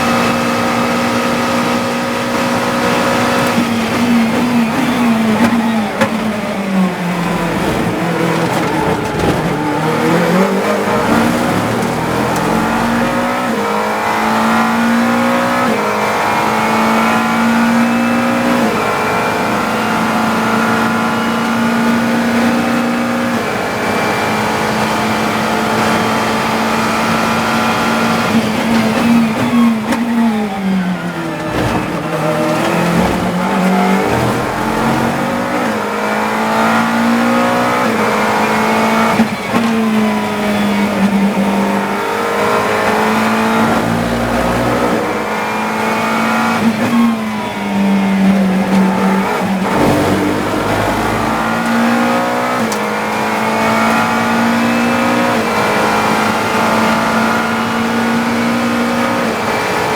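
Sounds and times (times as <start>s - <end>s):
race car engine with gear changes: 0.0s - 59.9s.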